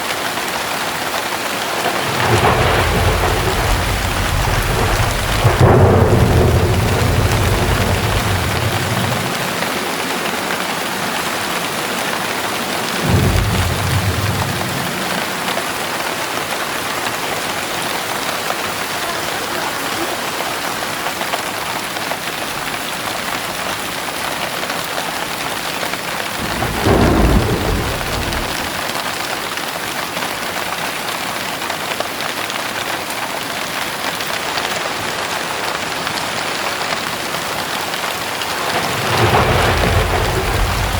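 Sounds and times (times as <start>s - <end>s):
heavy rain falling: 0.0s - 40.9s
thunder rumbling: 1.3s - 24.2s, 25.2s - 29.3s, 34.9s - 40.9s.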